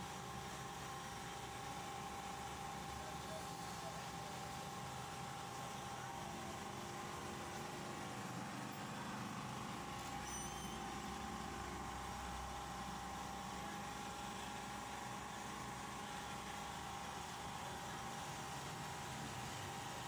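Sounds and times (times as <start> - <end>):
photocopier humming: 0.1 - 20.0.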